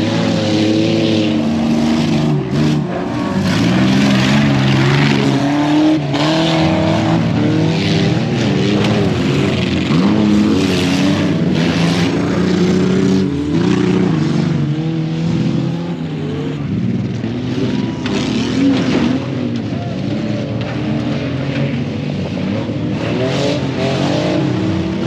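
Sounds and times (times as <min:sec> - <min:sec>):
off-road vehicle engines revving: 0:00.0 - 0:25.0.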